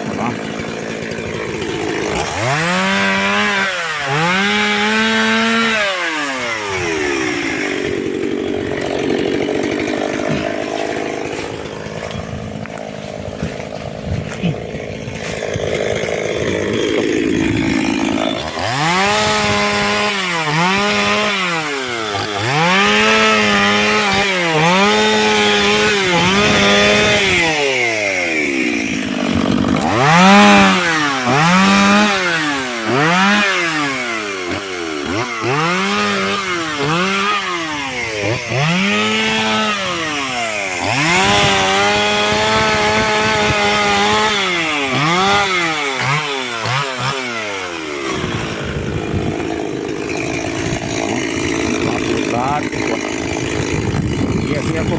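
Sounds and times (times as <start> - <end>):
chainsaw engine revving: 0.0 - 54.9.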